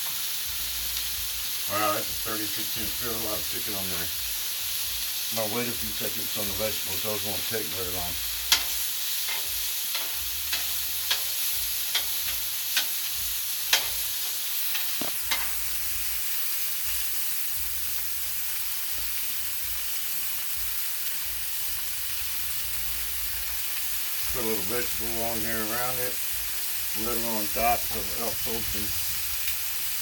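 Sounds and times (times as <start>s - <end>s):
chicken sizzling on a griddle: 0.0s - 30.0s.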